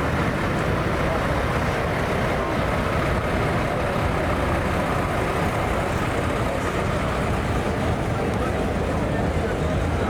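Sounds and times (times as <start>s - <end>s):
truck engine rumbling: 0.0s - 10.0s.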